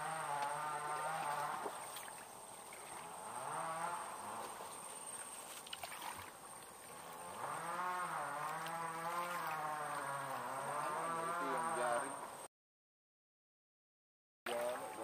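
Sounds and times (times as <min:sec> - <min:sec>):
small boat engine droning: 0:00.0 - 0:12.5, 0:14.5 - 0:15.0.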